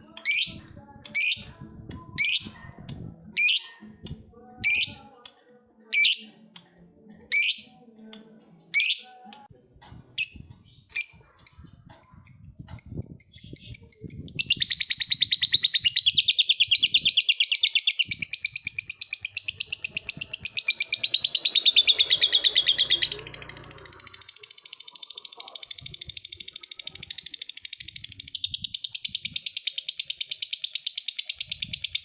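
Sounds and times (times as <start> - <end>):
lovebird chattering trill: 0.1 - 1.6, 2.2 - 2.6, 3.4 - 3.8, 4.6 - 5.1, 6.0 - 6.4, 7.3 - 7.7, 8.7 - 9.2, 10.2 - 32.0.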